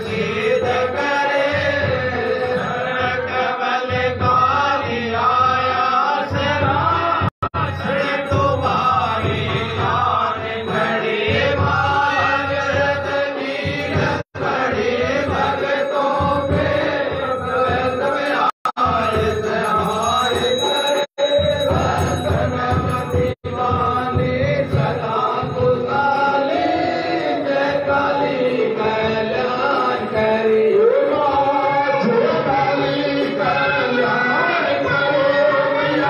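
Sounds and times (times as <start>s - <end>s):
hymn sung as a chant: 0.0s - 36.0s.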